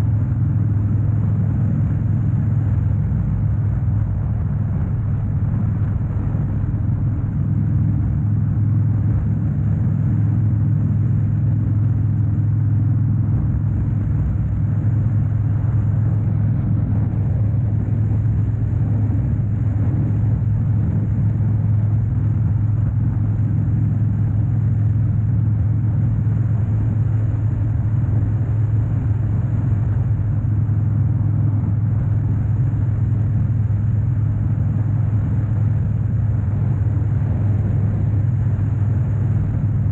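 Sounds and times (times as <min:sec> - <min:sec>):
motorcycle exhaust rumble: 0:00.0 - 0:39.9.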